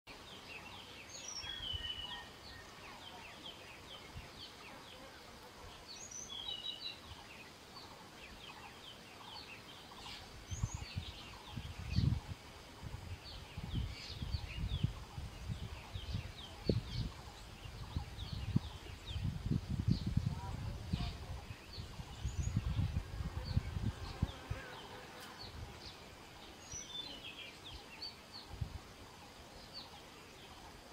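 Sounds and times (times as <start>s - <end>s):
small birds chirping: 0.1s - 30.9s.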